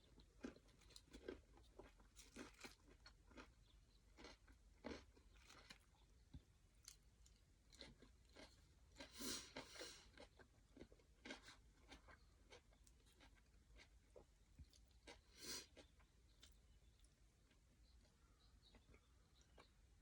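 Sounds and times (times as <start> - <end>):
chewing crunches: 0.0 - 19.9.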